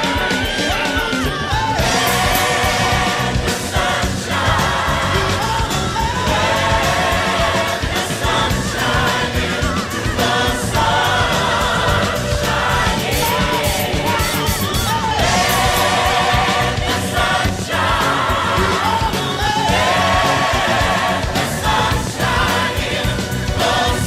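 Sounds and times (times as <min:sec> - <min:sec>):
choir singing with music: 0:00.0 - 0:24.0.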